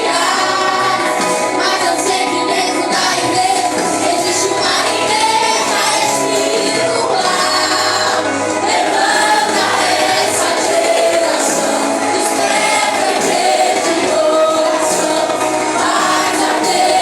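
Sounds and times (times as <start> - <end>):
choir singing worship music: 0.0 - 17.0.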